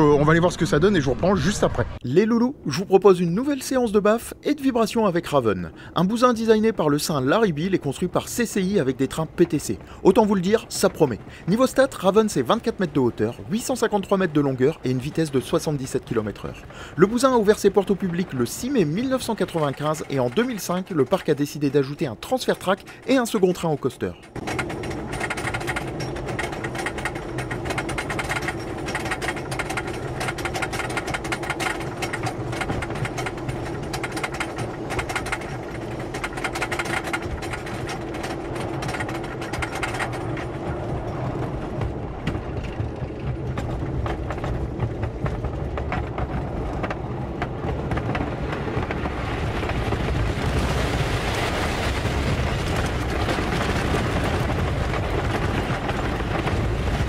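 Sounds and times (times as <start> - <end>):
roller coaster lift chain clatter: 0.0 - 57.0
rushing rumble of wind and wheels: 0.0 - 57.0.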